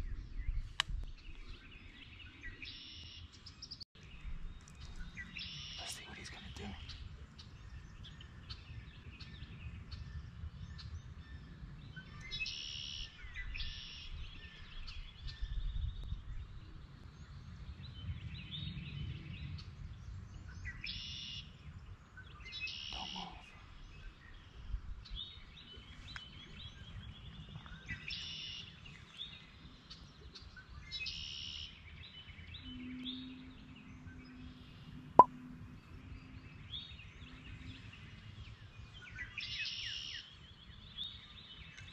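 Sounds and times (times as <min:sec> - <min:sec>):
songbirds singing: 0:00.0 - 0:35.0, 0:35.6 - 0:41.9.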